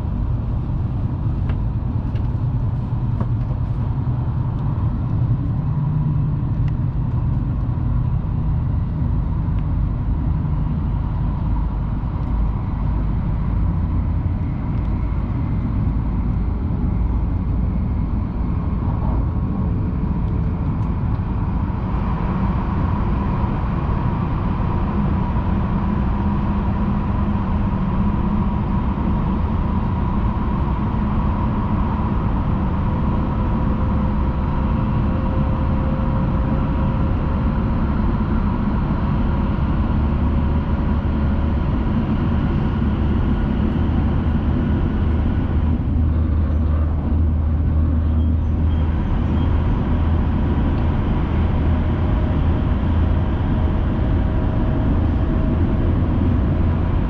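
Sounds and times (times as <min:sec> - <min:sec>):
train rumble inside passenger car: 0:00.0 - 0:57.0.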